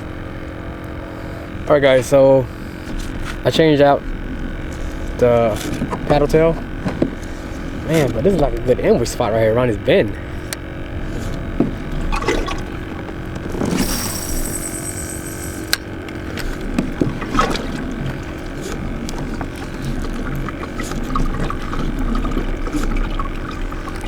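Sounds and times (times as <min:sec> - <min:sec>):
water lapping against kayak hull: 0:00.0 - 0:24.0.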